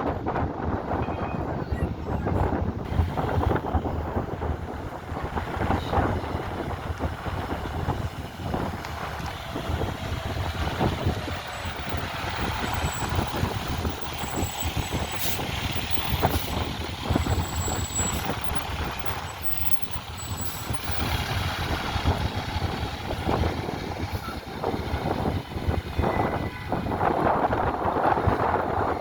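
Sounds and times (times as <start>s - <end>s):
wind buffeting microphone: 0.0s - 29.0s
fire truck engine running: 1.8s - 29.0s.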